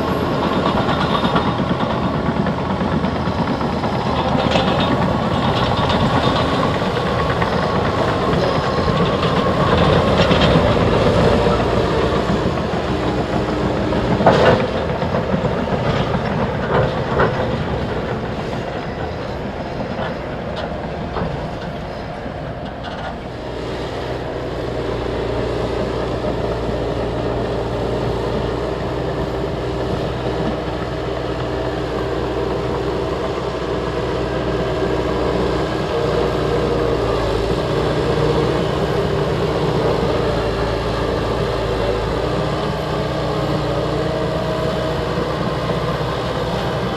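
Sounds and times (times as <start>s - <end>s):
diesel engine under load: 0.0s - 46.9s
steel tracks clattering: 0.0s - 46.9s.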